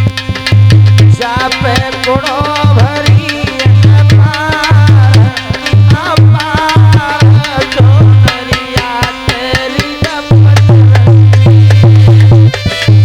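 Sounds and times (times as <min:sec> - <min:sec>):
fast tabla-like drum rhythm: 0:00.0 - 0:13.0
heavy deep beats: 0:00.0 - 0:13.0
wavering melody instrument: 0:00.0 - 0:13.0.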